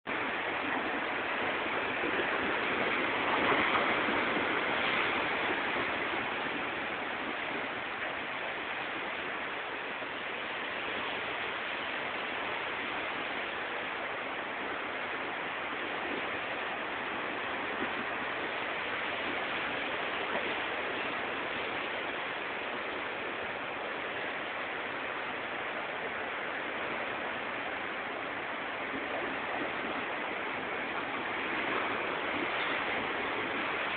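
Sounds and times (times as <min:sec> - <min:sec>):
sea surf on rocks: 0:00.1 - 0:33.9.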